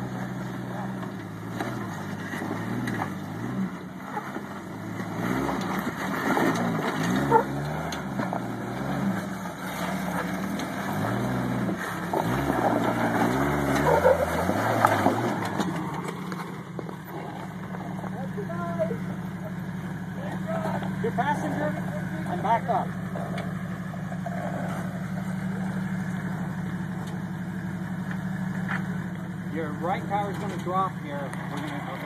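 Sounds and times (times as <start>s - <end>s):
engine revving: 0.0s - 32.0s.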